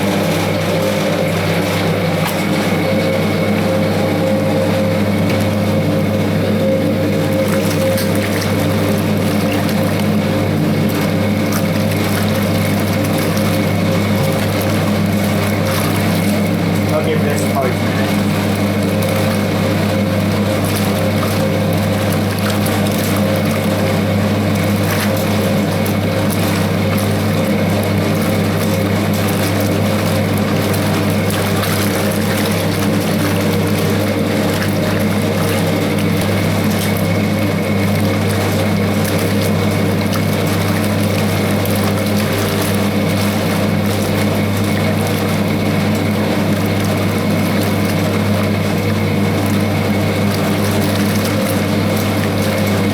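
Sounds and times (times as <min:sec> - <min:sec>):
water churning in tub: 0:00.0 - 0:52.9.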